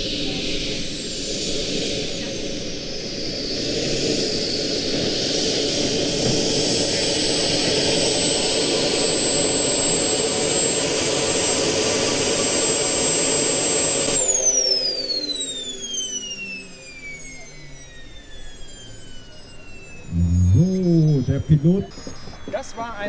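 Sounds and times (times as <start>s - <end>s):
jet turbine whine: 0.0s - 23.0s
turbine spooling down: 0.0s - 23.0s.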